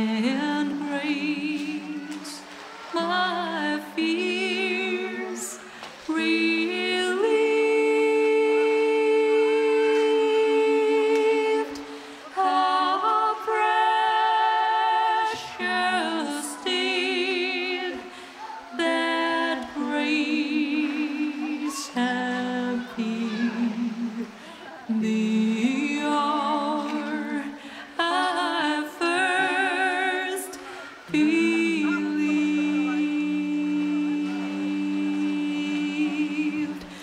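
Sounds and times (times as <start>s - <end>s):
song with singing voice: 0.0s - 37.0s.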